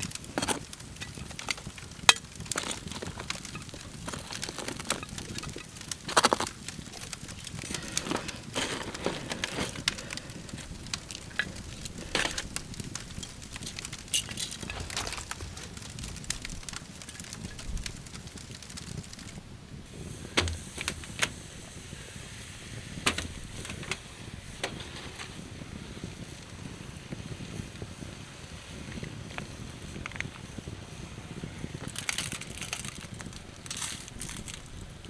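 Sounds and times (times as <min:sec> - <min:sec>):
campfire crackling: 0:00.0 - 0:35.0
fire cracking: 0:00.0 - 0:35.0.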